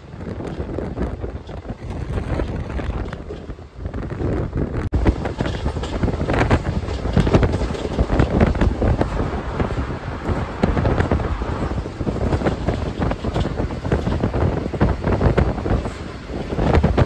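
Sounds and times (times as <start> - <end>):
train wheels rumbling and clattering: 0.0 - 17.0
wind buffeting microphone: 0.0 - 17.0.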